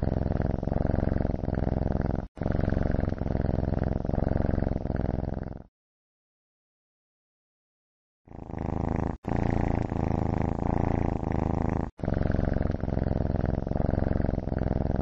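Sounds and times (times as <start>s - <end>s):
cat purring: 0.0s - 5.7s, 8.3s - 15.0s.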